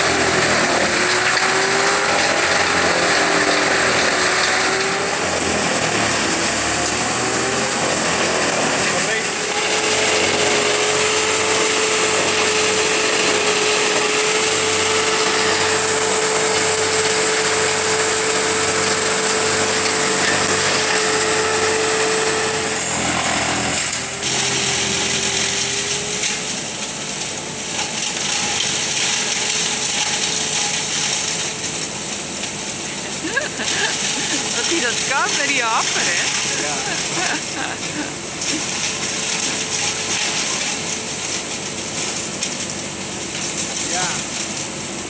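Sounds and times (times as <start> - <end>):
high mechanical whine: 0.0 - 45.0
wood chipper shredding branches: 0.0 - 45.0.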